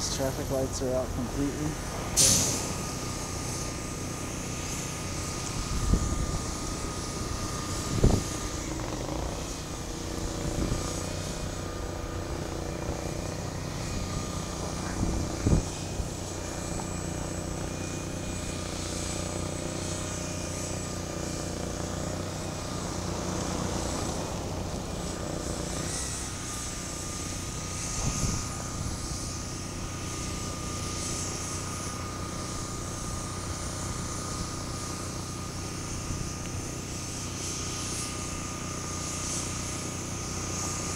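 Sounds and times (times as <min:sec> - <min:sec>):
engine drone: 0:00.0 - 0:40.9.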